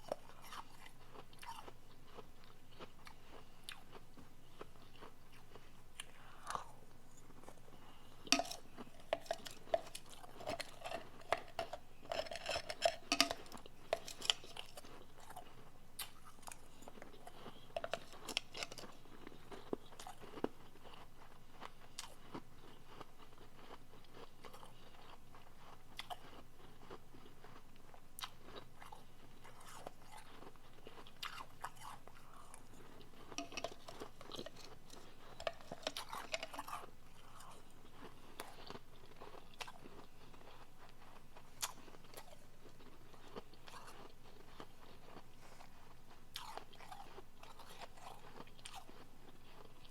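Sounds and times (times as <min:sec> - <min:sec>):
chewing crunchy ice: 0:00.0 - 0:49.9.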